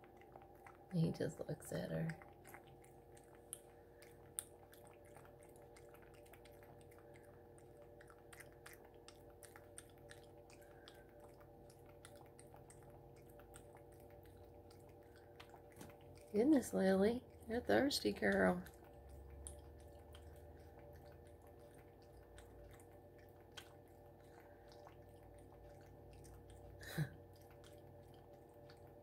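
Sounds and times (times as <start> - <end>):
cat lapping water: 0.0 - 29.0.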